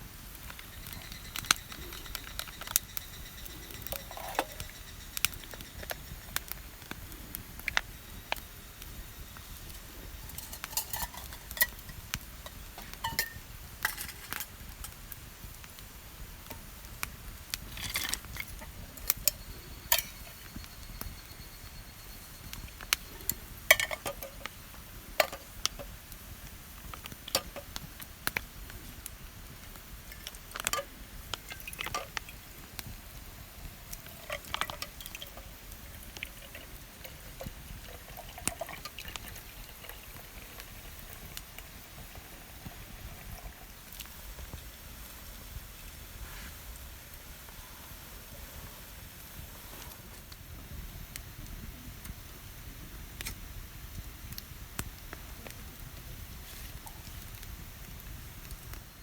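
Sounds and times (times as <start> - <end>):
charcoal fire crackling and popping: 0.0 - 59.0.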